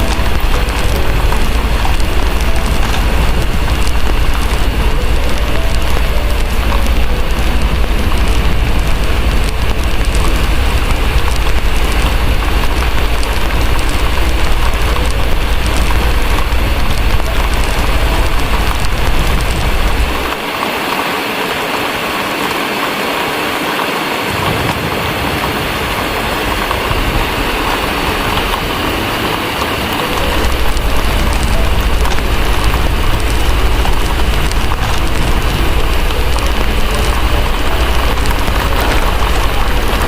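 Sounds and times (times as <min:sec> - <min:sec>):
deep low rumble: 0:00.0 - 0:20.4, 0:24.4 - 0:40.0
faint fireplace crackling: 0:00.0 - 0:20.5, 0:26.6 - 0:40.0
heavy rain: 0:00.0 - 0:40.0.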